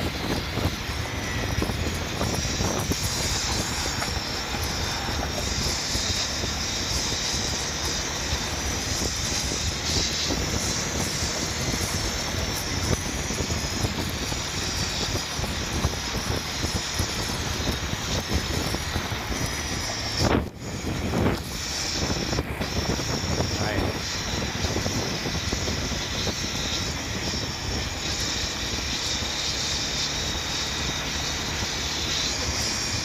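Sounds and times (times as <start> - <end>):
motorcycle engine cruising: 0.0 - 33.0
wind noise on microphone: 0.0 - 33.0.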